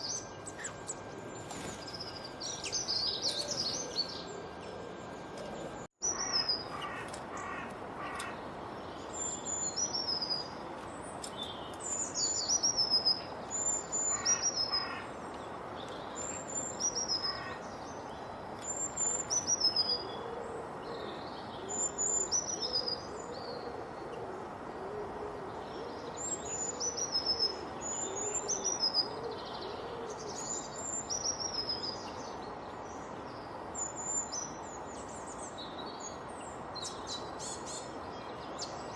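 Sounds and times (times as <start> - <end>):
high falling whistled birdsong: 0.0 - 7.5, 8.1 - 38.9
steady background hiss: 0.0 - 38.9.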